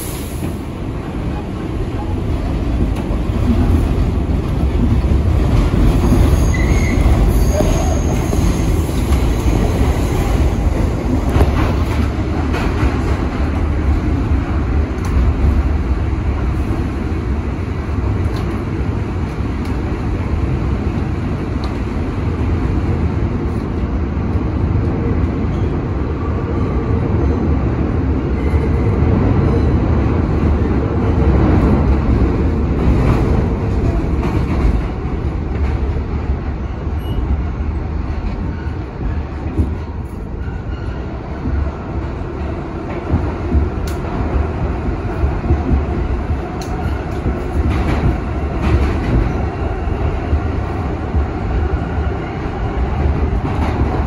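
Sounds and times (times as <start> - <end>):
subway wheels rumbling on rails: 0.0 - 54.0.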